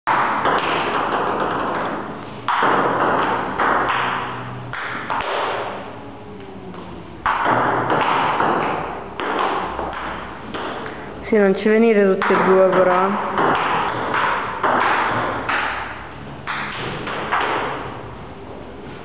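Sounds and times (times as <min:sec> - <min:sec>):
ping-pong ball bouncing on table: 0:00.1 - 0:05.8, 0:06.7 - 0:10.9, 0:12.1 - 0:17.9
ping-pong ball hitting paddles: 0:00.1 - 0:06.0, 0:06.6 - 0:11.0, 0:12.0 - 0:18.1.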